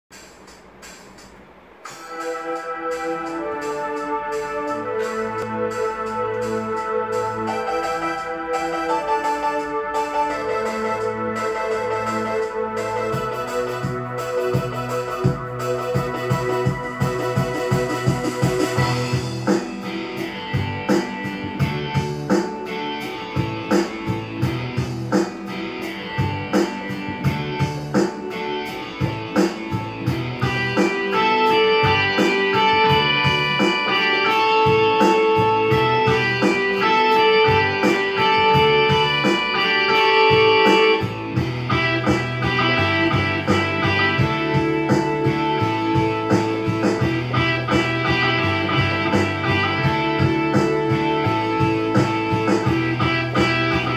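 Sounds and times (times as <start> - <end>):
backing track drum beat: 0.1 - 53.9
digital piano rock melody: 0.1 - 53.9
bass line: 1.9 - 53.9.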